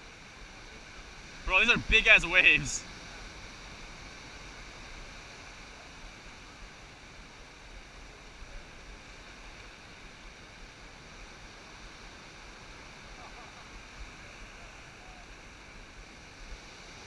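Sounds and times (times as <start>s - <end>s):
ocean surf washing up beach: 0.1s - 17.0s.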